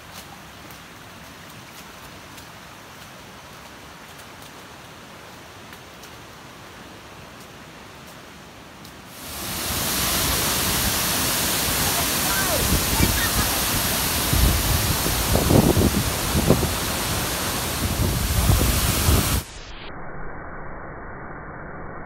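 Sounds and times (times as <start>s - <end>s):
large waterfall pouring: 0.0s - 19.5s
distant rushing water: 0.0s - 19.6s.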